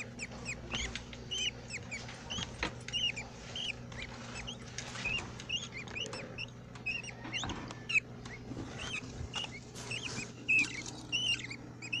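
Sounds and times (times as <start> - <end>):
budgerigars chirping: 0.0 - 12.0
steady low hum: 0.0 - 12.0.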